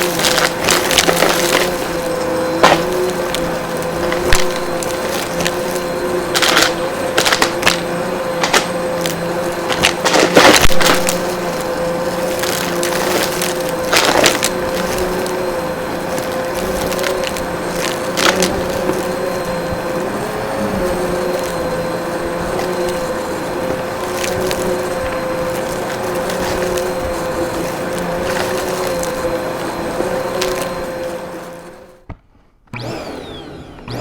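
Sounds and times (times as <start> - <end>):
vacuum cleaner motor whine: 0.0 - 32.1, 32.7 - 34.0.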